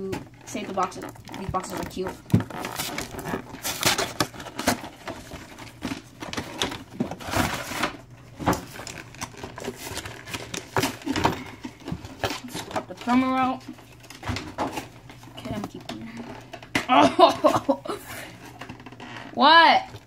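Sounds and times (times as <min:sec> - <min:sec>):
packaging rustling and scraping: 0:00.0 - 0:16.7, 0:17.9 - 0:20.0.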